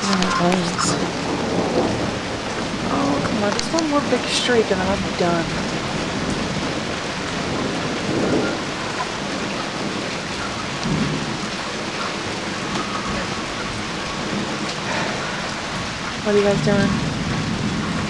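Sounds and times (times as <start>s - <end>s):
heavy rain falling: 0.0s - 18.0s
thunder rumbling: 0.0s - 18.0s.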